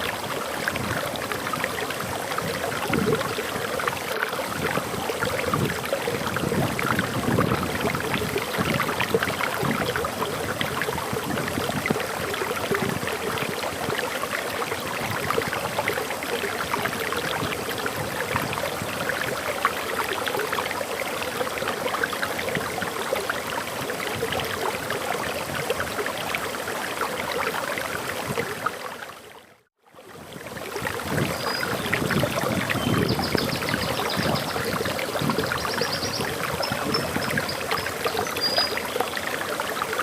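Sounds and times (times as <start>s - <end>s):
water splashing over rocks: 0.0s - 40.0s.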